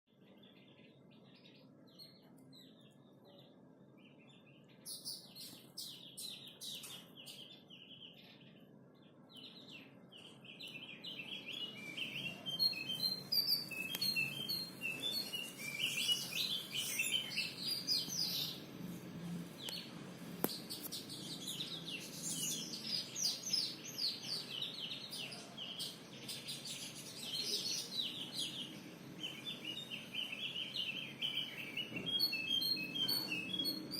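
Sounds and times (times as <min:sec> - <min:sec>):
bird chirping chatter: 0:00.1 - 0:33.9.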